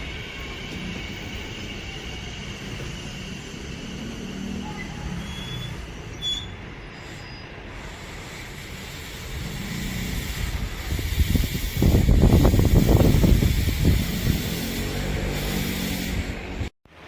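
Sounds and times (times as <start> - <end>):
train wheels rumbling on rails: 0.0 - 16.7.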